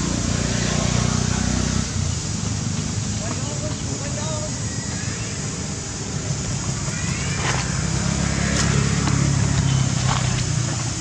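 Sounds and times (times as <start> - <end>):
vehicle engine hum passing: 0.0 - 4.1, 4.9 - 11.0.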